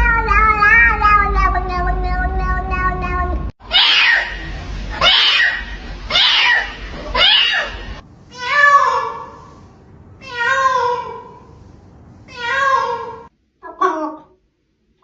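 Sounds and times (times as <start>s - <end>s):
cats meowing: 0.0s - 9.5s, 10.2s - 11.4s, 12.3s - 14.2s.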